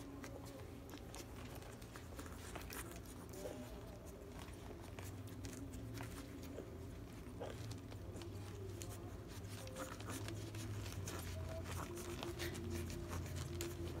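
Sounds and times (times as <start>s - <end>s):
puppies suckling: 0.0s - 14.0s.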